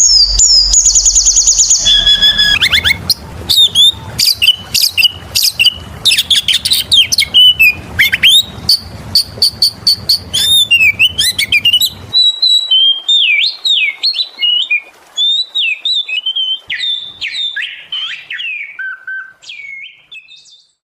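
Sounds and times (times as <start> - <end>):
songbird whistling song: 0.0 - 20.8.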